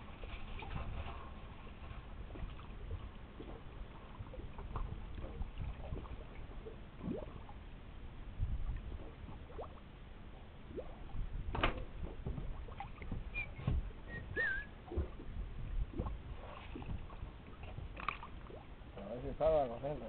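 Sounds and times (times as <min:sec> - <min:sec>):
low rumble: 0:00.0 - 0:19.4
water gurgling and sloshing: 0:00.0 - 0:20.0.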